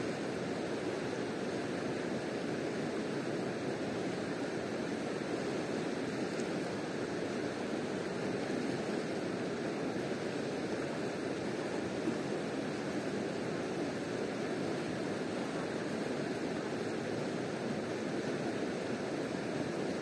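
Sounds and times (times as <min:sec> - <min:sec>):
fast-flowing river rushing: 0:00.0 - 0:20.0.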